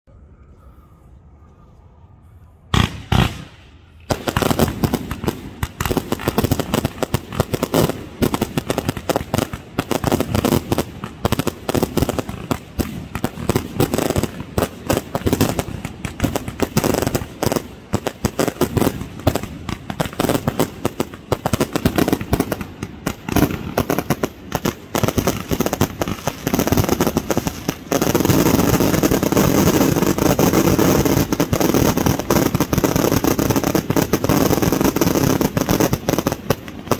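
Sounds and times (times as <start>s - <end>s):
fireworks bangs and crackles: 2.7s - 36.9s.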